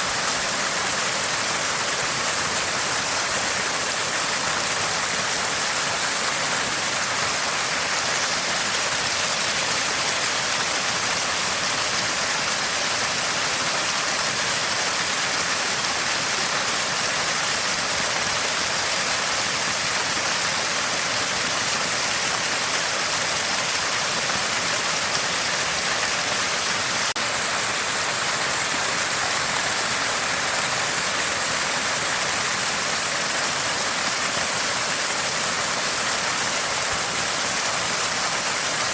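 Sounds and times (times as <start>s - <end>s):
spring water gushing and gurgling: 0.0s - 38.9s.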